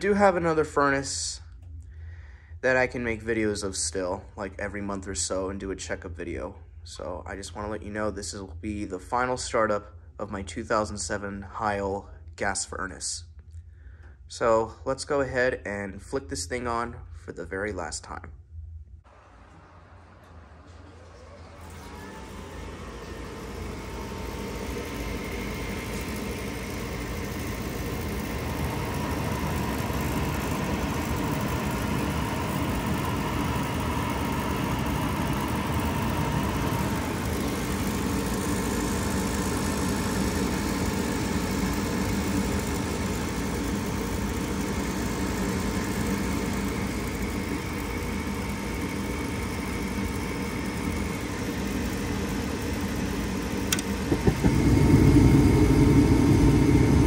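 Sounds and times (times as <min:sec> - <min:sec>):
furnace motor hum with whine: 0:00.0 - 0:57.0.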